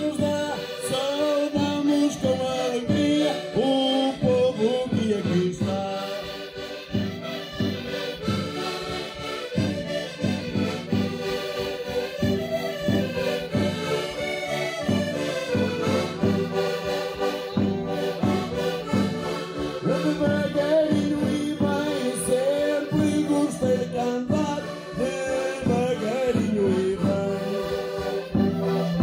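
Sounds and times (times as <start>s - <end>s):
button accordions playing folk tune: 0.0s - 29.0s.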